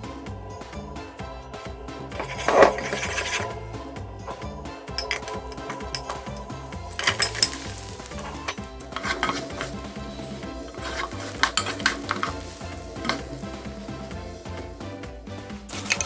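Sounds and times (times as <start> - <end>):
background music: 0.0 - 16.0
utensil scraping a pot: 0.0 - 16.0
food sizzling in a pot: 1.6 - 16.0.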